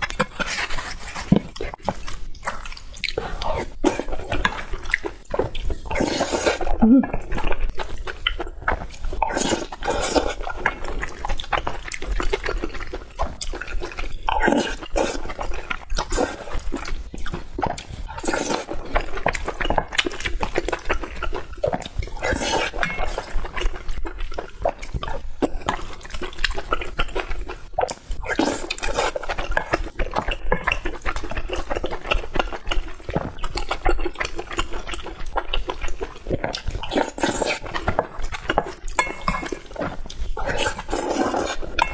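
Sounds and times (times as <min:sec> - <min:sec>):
wet chewing and mouth sounds: 0:00.0 - 0:41.9.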